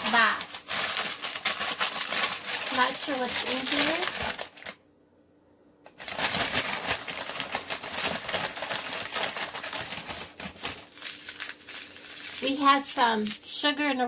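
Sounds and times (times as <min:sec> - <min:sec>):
paper bag rustling and crinkling: 0:00.0 - 0:04.8, 0:06.0 - 0:13.5.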